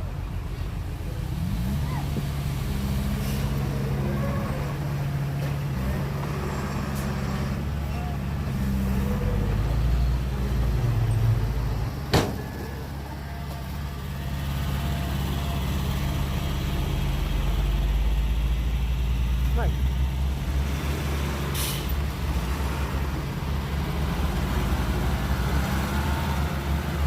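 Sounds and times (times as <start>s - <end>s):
diesel engines droning: 0.0s - 27.0s.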